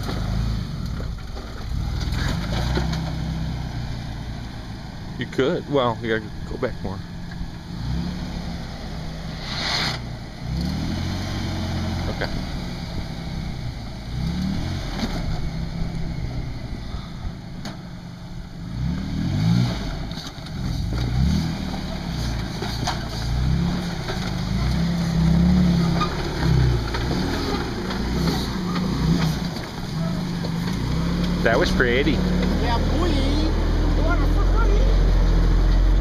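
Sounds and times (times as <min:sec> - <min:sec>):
suv engine revving: 0:00.0 - 0:36.0.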